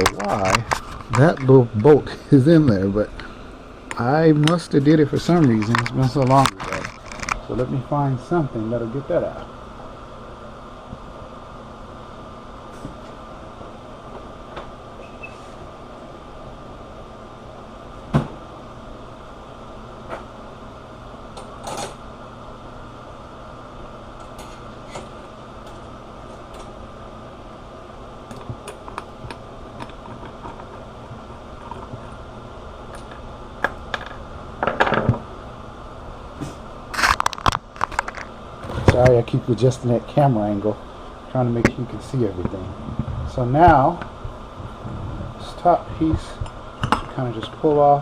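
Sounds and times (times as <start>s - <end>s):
steady background hum: 0.0s - 48.0s.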